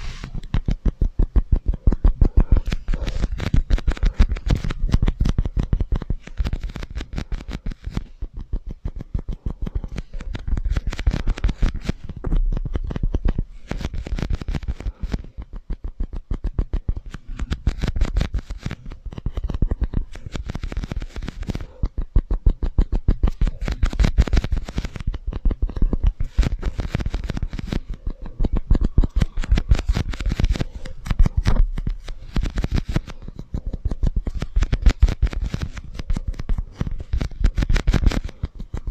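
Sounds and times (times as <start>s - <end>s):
tapping and scratching on cups: 0.0s - 38.9s.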